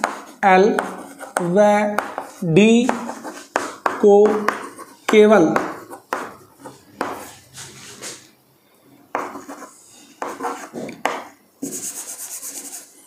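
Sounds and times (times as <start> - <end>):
chalk tapping and scratching: 0.0 - 8.2, 9.1 - 13.0.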